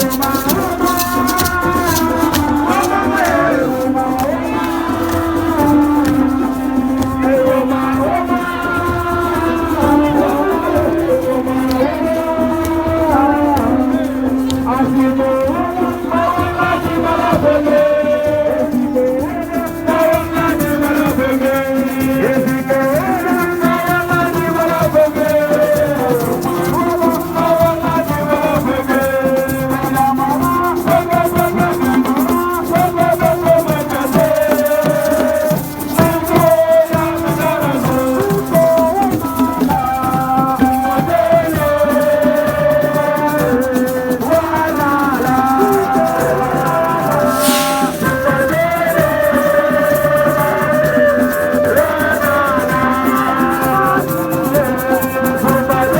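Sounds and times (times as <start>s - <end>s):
person singing: 0.0s - 55.9s
rattles shaken in rhythm: 0.0s - 55.9s.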